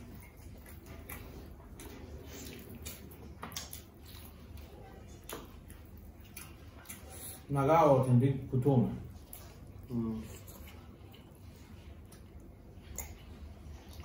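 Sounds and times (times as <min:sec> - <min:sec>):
wet chewing and lip smacking: 0:00.0 - 0:07.5, 0:09.1 - 0:14.0.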